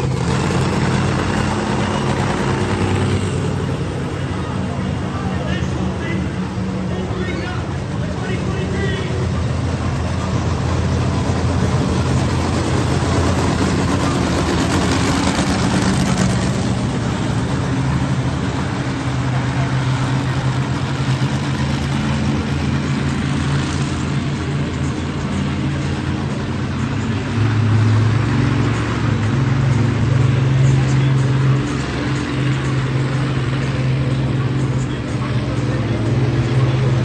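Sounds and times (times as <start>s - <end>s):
loud truck engine running: 0.0s - 37.0s.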